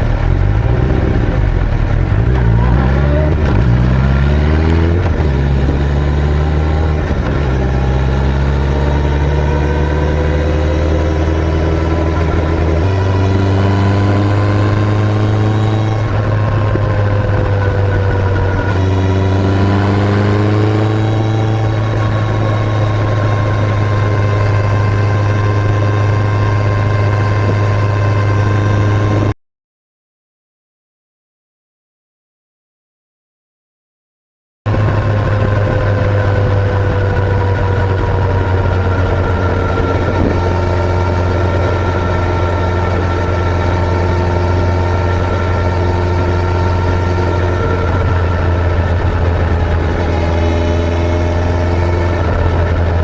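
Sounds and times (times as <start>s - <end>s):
motorcycle engine running: 0.0s - 29.4s, 34.7s - 53.0s.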